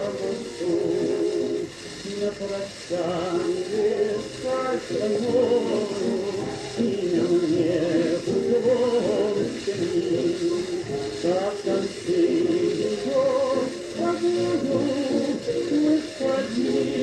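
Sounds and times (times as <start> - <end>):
man singing with vibrato: 0.0 - 17.0
musical accompaniment: 0.0 - 17.0
old recording hiss: 0.0 - 17.0.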